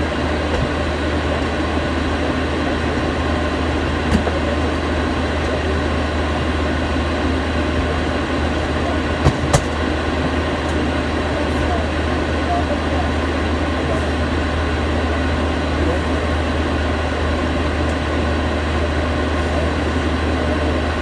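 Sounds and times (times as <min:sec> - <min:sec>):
vehicle cabin rumble and hiss: 0:04.0 - 0:21.0.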